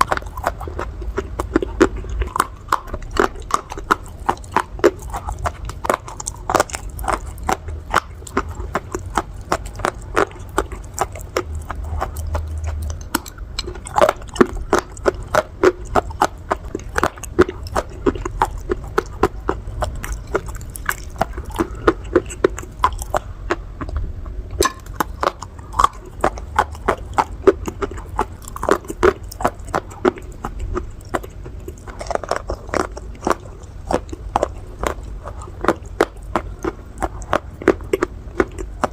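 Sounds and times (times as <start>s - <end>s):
clay pieces crunching when chewed: 0.0s - 38.9s.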